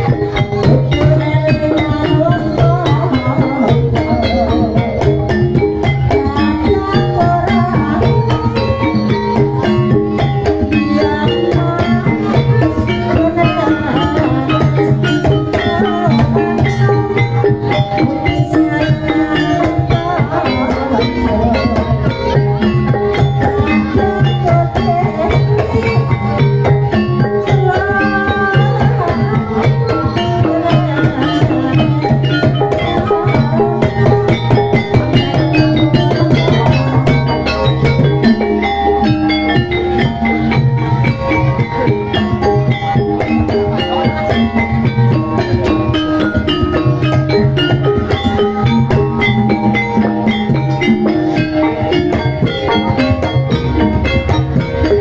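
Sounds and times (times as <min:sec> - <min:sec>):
hand drums: 0:00.0 - 0:55.0
mallet-struck melody instruments: 0:00.0 - 0:55.0.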